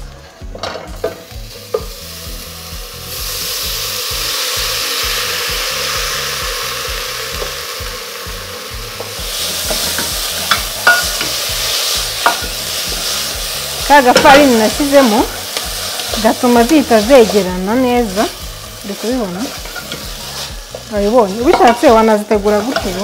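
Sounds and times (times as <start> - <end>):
spinach sizzling in a pot: 0.0 - 23.0.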